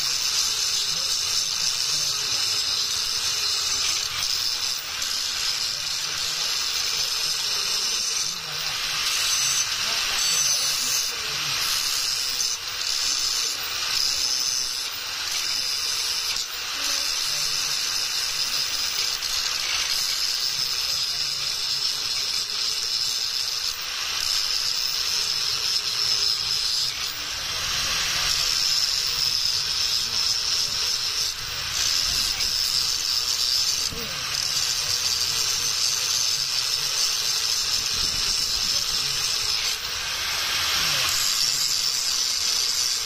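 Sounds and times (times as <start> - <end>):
loud steady hissing: 0.0 - 43.0.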